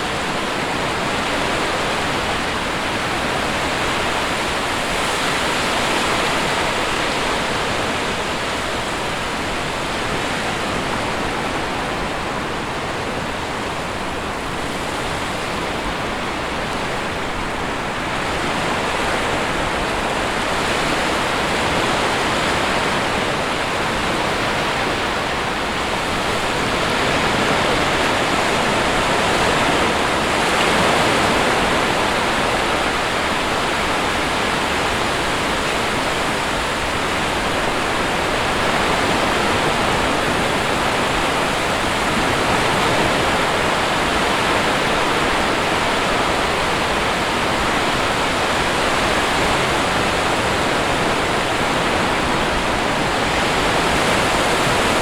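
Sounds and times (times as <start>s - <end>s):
waves washing on shore: 0.0s - 55.0s.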